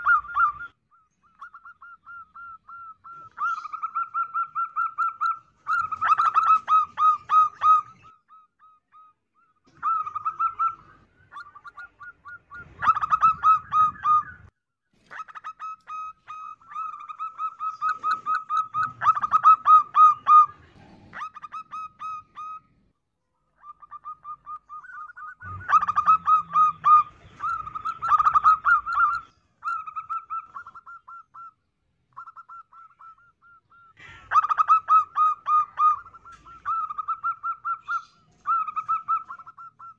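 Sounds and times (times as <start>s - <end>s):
dove cooing: 0.0s - 14.5s, 15.1s - 22.9s, 23.6s - 39.9s.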